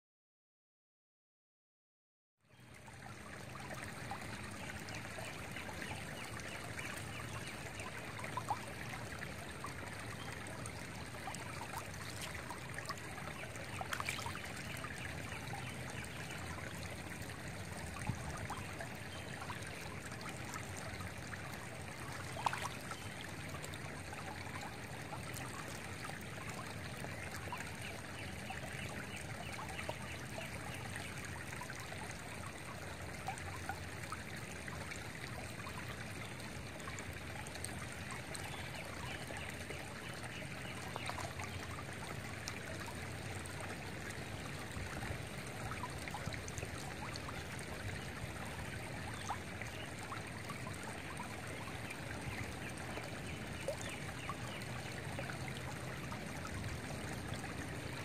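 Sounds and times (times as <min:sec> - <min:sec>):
creek babbling over stones: 0:02.5 - 0:58.0.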